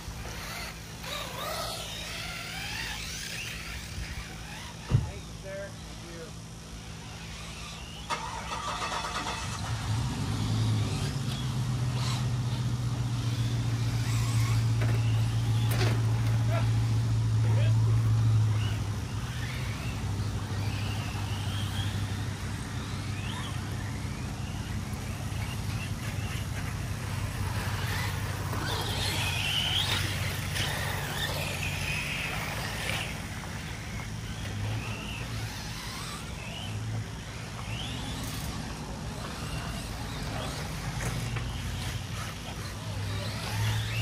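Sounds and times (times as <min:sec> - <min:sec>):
steady low hum: 0:00.0 - 0:08.5, 0:09.2 - 0:44.0
electric motors whining: 0:00.0 - 0:44.0.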